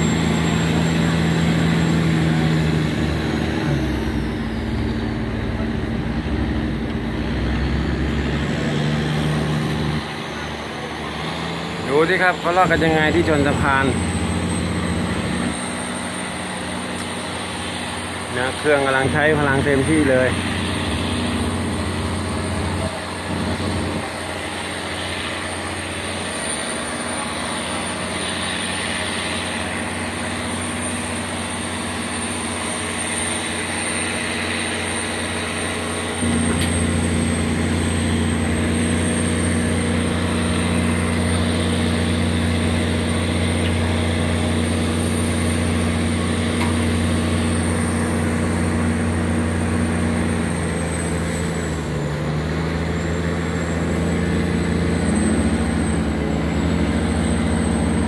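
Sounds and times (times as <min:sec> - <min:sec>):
boat engine drone: 0:00.0 - 0:58.0.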